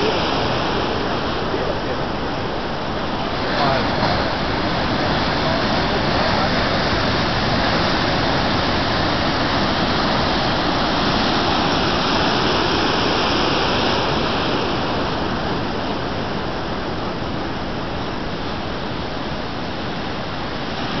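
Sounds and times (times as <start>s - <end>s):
waves breaking: 0.0s - 21.0s.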